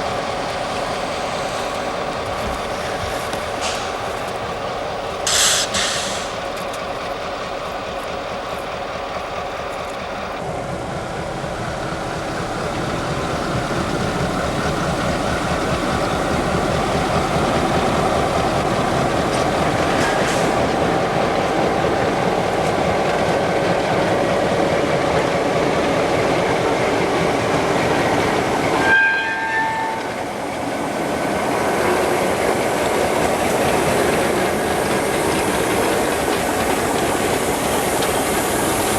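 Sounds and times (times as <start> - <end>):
train rolling on rails: 0.0 - 38.9.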